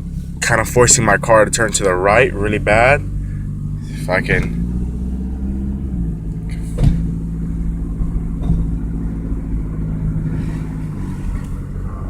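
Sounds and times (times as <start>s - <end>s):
engine and road drone: 0.0s - 12.0s.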